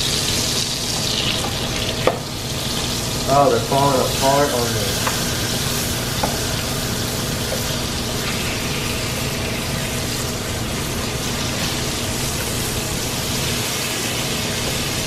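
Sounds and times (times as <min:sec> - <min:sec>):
fish sizzling in butter: 0:00.0 - 0:15.0.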